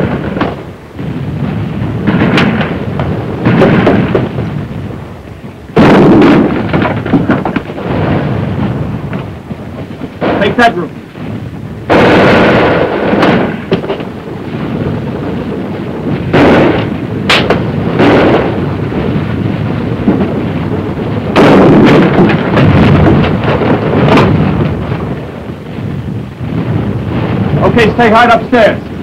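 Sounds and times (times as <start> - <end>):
gunshots with rumbling echo: 0.0 - 29.0.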